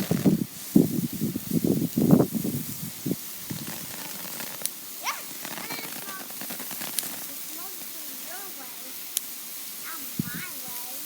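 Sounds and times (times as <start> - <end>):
fountain firework hissing: 0.0 - 11.0.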